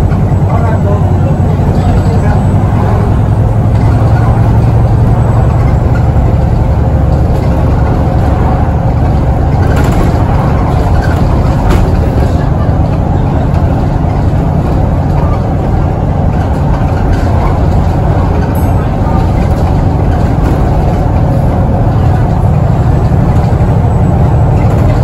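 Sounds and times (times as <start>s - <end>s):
bus diesel engine drone: 0.0s - 25.0s
road noise: 0.0s - 25.0s.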